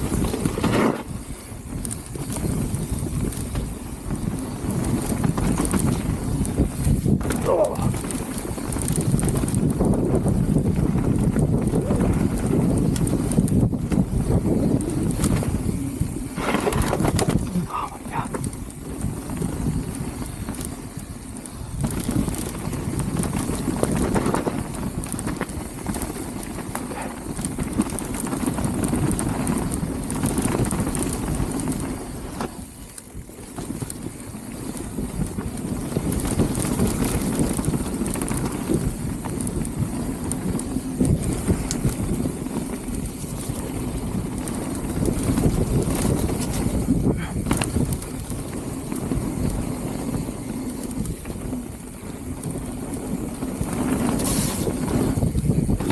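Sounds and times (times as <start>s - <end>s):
bike rattling and knocking: 0.0s - 55.9s
bike tyres rolling on dirt: 0.0s - 55.9s.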